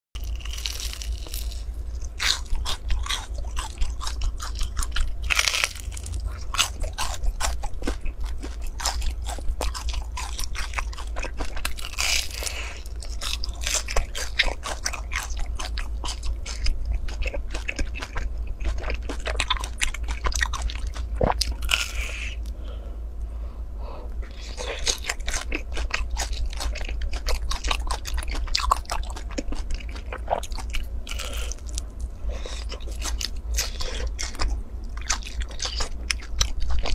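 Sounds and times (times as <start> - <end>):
crunchy rice cake chewing: 0.2 - 22.6, 24.2 - 36.9
steady low hum: 0.2 - 36.9.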